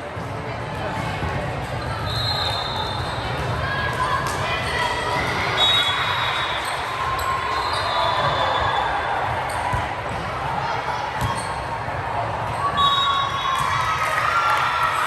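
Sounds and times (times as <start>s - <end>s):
crowd chatter echoing: 0.0s - 15.0s.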